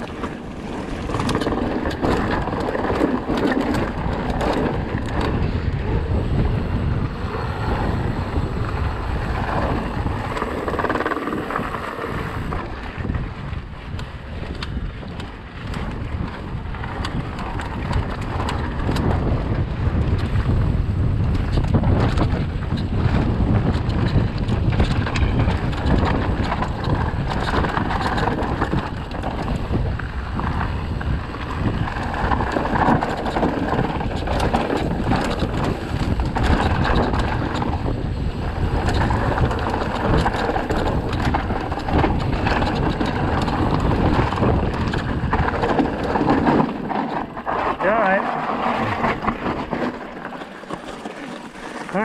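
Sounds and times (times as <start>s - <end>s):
tyres rumbling: 0.0s - 13.2s, 23.5s - 52.0s
bike rattling over stones: 0.0s - 52.0s
wind on microphone: 0.0s - 52.0s.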